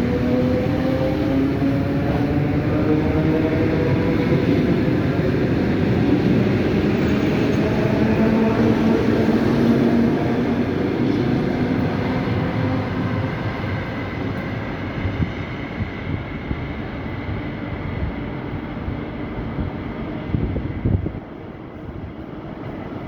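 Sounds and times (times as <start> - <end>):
electric train rolling: 0.0 - 20.3.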